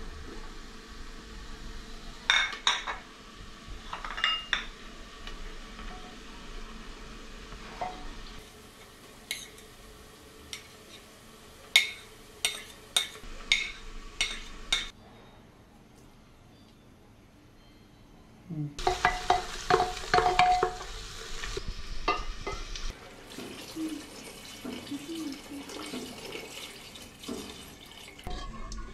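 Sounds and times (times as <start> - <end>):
faint frying sizzle: 0.0 - 14.9, 18.8 - 28.2.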